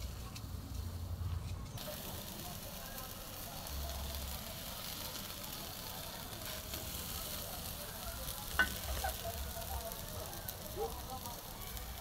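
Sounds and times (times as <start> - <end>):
meat sizzling on grill: 1.7 - 12.0.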